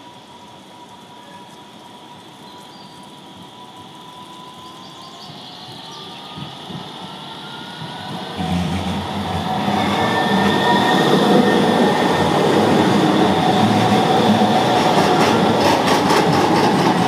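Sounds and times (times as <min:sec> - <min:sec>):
thin steady whine: 0:00.0 - 0:15.8
tram running on wet track: 0:00.0 - 0:17.0.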